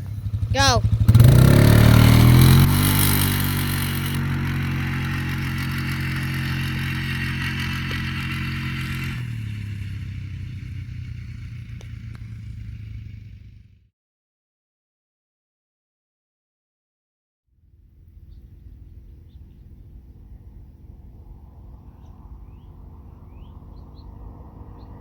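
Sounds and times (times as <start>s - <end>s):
atv engine accelerating: 0.0s - 13.8s, 17.8s - 25.0s.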